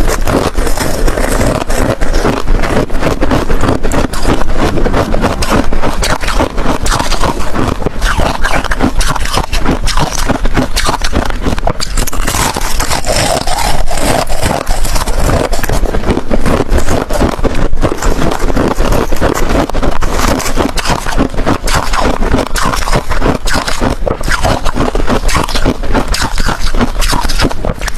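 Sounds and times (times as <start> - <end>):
ice cubes being chewed: 0.0 - 27.9.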